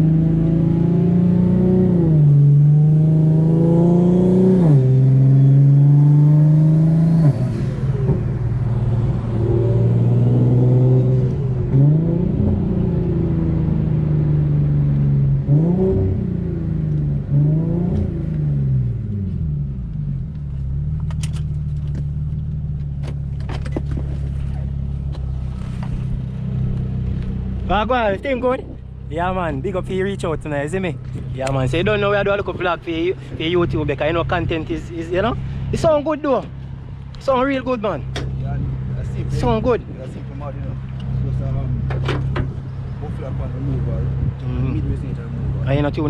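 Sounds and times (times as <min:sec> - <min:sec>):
car engine accelerating and revving: 0:00.0 - 0:46.0.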